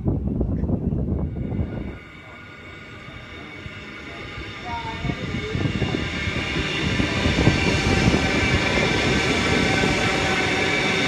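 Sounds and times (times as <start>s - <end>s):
steady train whine: 0.0s - 11.0s
train wheels rumbling on rails: 0.0s - 11.0s.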